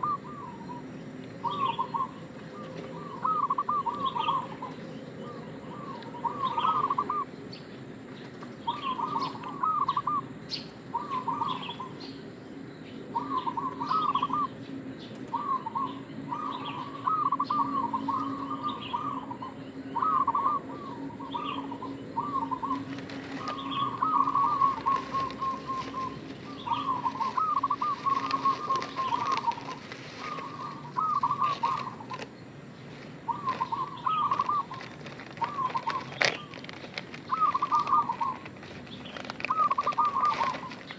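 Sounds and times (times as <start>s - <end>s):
dove cooing: 0.0s - 12.2s, 13.0s - 40.9s.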